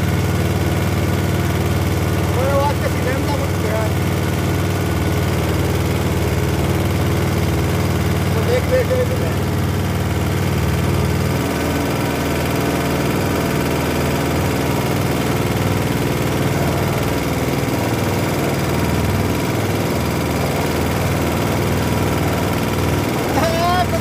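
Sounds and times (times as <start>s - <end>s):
small gasoline engine running unevenly: 0.0s - 24.0s.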